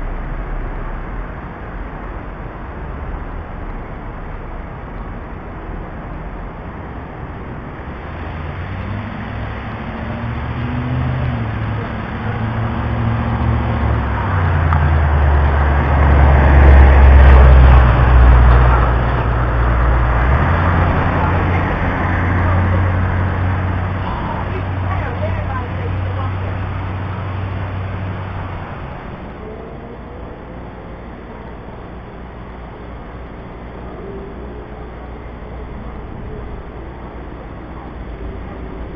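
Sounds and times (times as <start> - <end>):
road noise: 0.0 - 38.9
vehicle deep booming rumble: 0.0 - 38.9.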